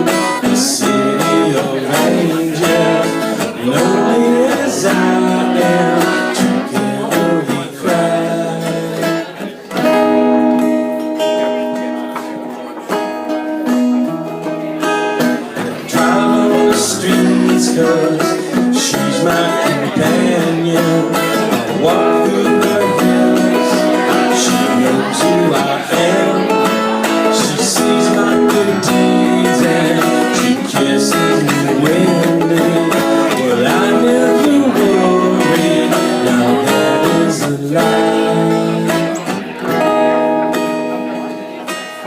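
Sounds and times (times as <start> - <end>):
acoustic guitar strummed and picked: 0.0 - 42.0.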